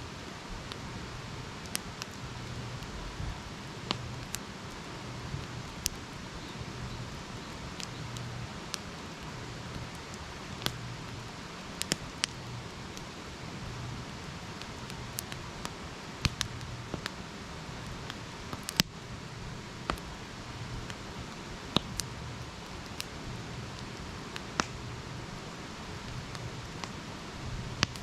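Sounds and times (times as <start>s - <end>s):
campfire crackling and popping: 0.1s - 28.0s.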